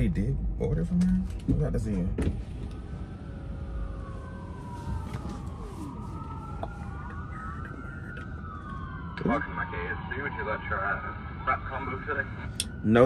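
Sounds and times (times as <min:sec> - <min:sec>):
low rumble of traffic: 0:00.0 - 0:13.0
siren wailing: 0:02.5 - 0:13.0.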